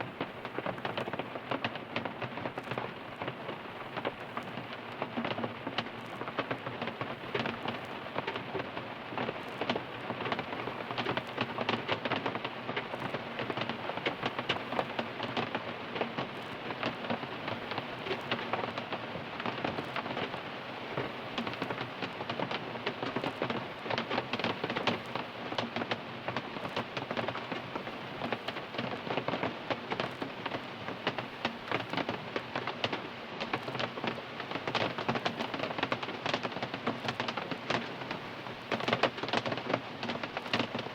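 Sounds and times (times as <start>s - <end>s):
rain drumming on car roof: 0.0s - 40.9s.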